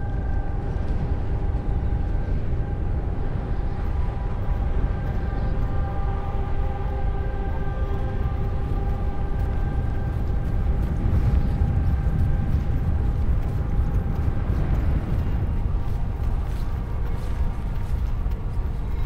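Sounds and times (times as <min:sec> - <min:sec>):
strong wind rumbling: 0:00.0 - 0:19.0.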